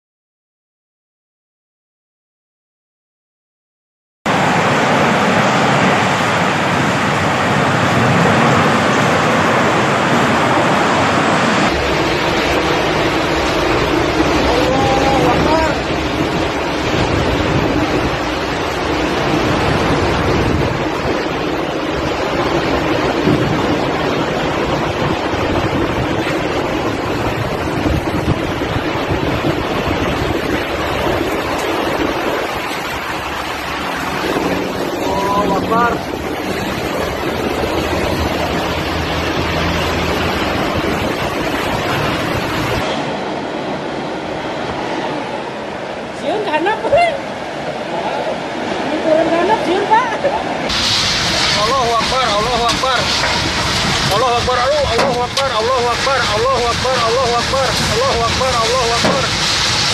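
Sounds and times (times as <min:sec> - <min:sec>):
deep rumble: 0:04.3 - 0:43.9, 0:50.6 - 0:59.9
tornado wind rushing: 0:04.3 - 0:59.9
wind buffeting microphone: 0:05.8 - 0:45.8, 0:49.7 - 0:59.9.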